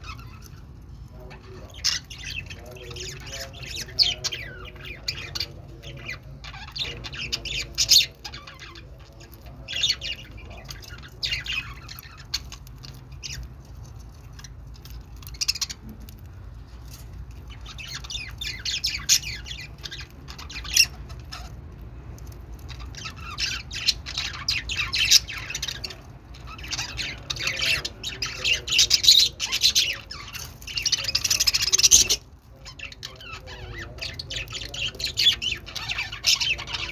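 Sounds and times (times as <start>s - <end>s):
budgerigars chirping and chattering: 0.0s - 36.9s.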